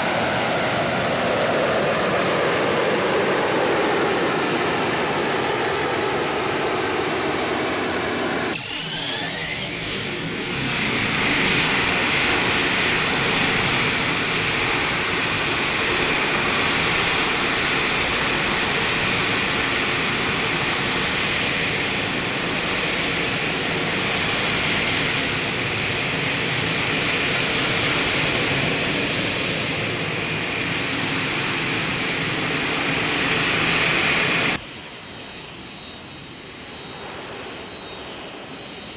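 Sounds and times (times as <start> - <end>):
jet engine with high whine: 0.0 - 38.9.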